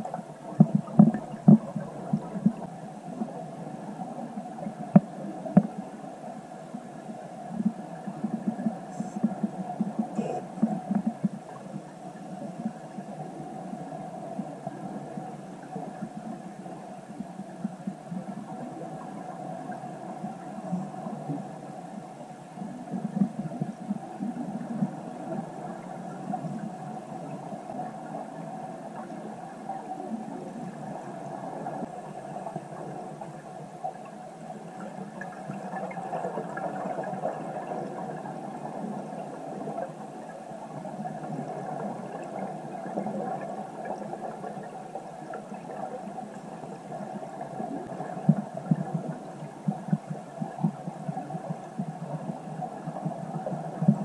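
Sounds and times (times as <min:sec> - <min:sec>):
underwater rumble and hiss: 0:00.0 - 0:54.0.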